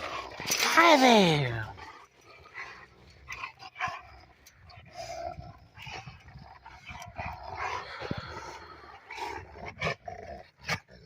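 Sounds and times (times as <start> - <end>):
dogs growling: 0.0 - 0.7, 1.4 - 11.0.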